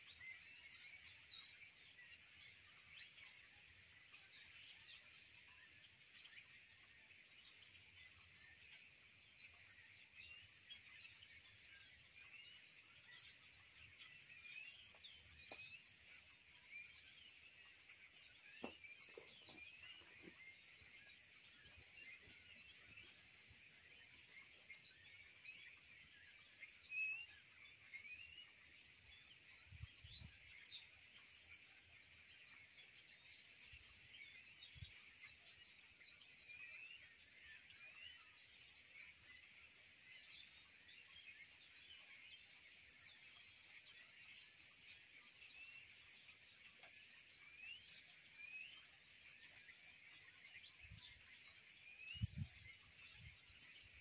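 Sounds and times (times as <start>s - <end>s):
faint birds chirping: 0.0s - 54.0s.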